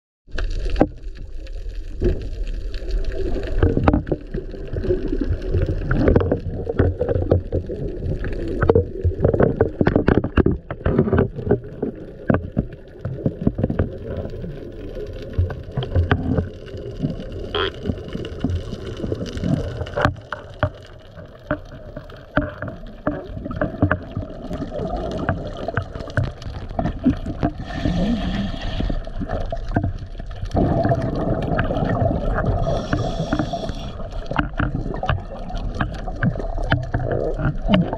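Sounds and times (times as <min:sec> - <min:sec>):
muffled rush of water underwater: 0:00.3 - 0:37.9
sharp underwater clicks and knocks: 0:03.5 - 0:04.4, 0:05.8 - 0:14.3, 0:15.3 - 0:28.0, 0:28.8 - 0:37.9.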